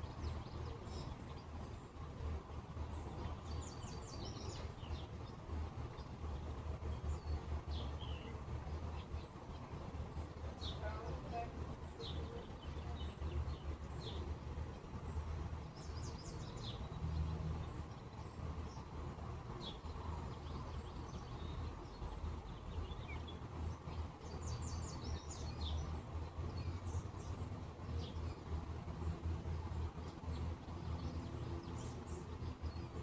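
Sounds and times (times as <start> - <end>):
birds chirping: 0.0 - 33.0
low background rumble: 0.0 - 33.0.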